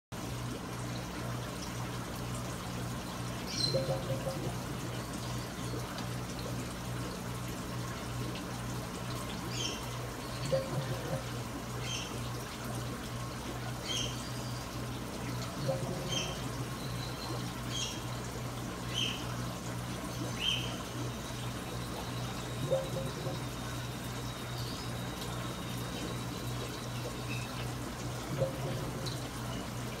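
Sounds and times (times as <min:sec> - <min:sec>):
trickling water: 0:00.1 - 0:30.0
pulsing pump hum: 0:00.2 - 0:30.0.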